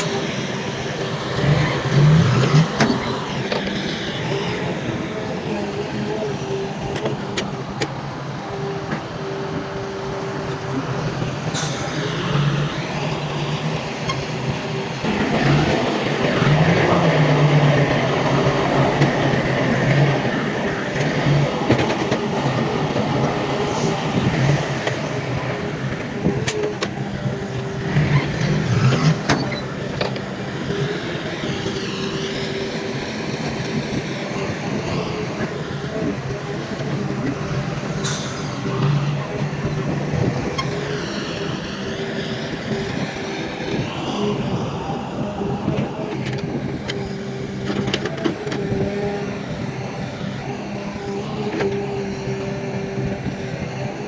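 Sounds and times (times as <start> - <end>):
diesel machinery engine: 0.0 - 54.0.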